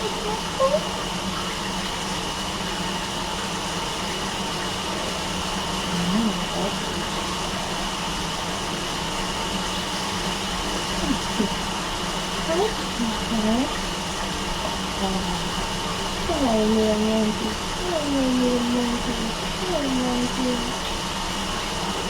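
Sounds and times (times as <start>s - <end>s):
room hiss and hum: 0.0s - 22.0s.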